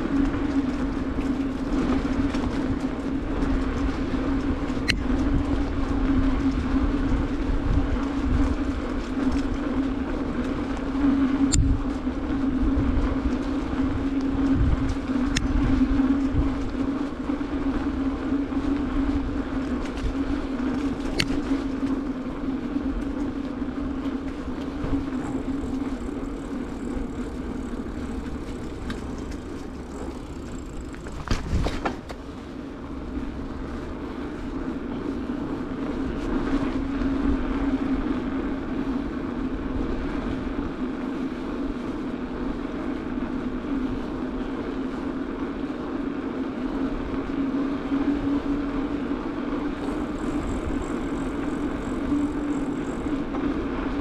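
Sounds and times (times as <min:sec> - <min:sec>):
bicycle tyres rolling on asphalt: 0:00.0 - 0:54.0
wind rumbling on microphone: 0:00.0 - 0:54.0.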